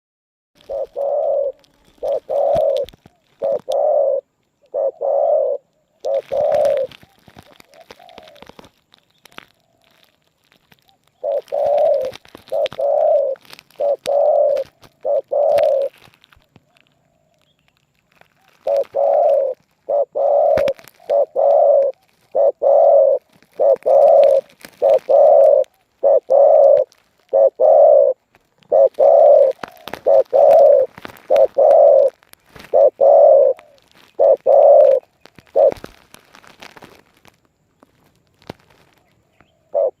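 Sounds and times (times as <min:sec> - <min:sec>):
dove cooing: 0:00.6 - 0:08.7, 0:10.8 - 0:17.4, 0:18.3 - 0:36.0, 0:38.8 - 0:40.0.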